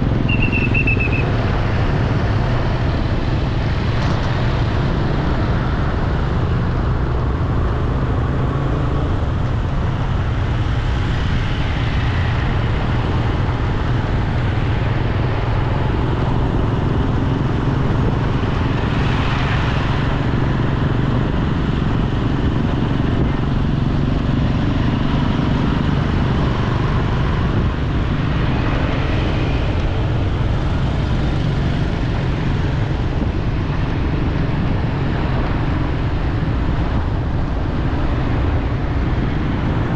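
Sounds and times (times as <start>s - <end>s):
street traffic: 0.0s - 39.9s
vehicles passing: 0.0s - 39.9s.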